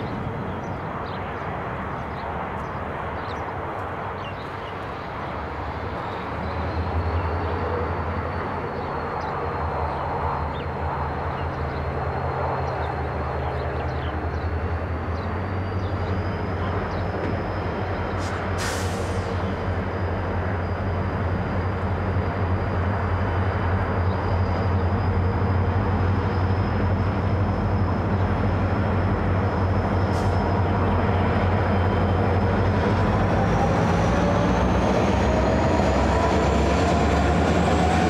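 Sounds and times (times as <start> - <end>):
diesel locomotive engine drone: 0.0 - 38.0.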